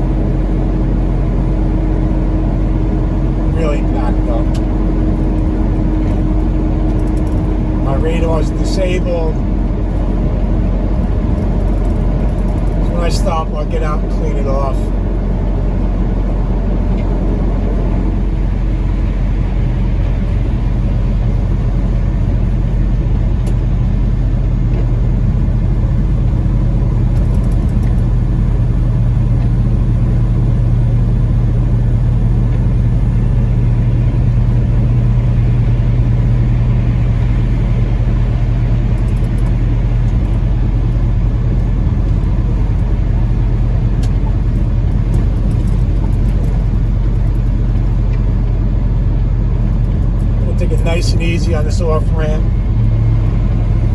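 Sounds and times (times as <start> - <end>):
engine cooling fan: 0.0 - 53.9
road noise: 0.0 - 53.9
truck engine drone: 0.0 - 53.9.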